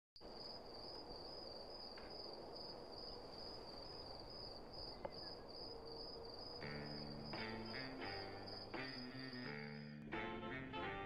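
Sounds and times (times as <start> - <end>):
crickets chirping: 0.2 - 10.0.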